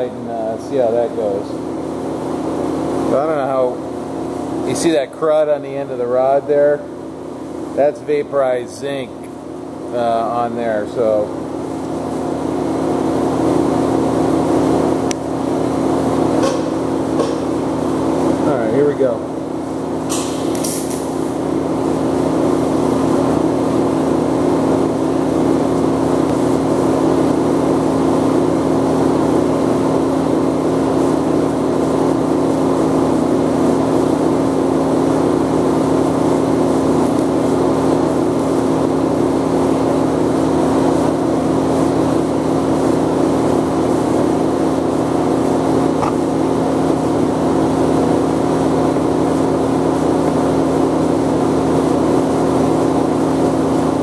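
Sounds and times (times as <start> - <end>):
welding arc buzzing: 8.8 - 54.0.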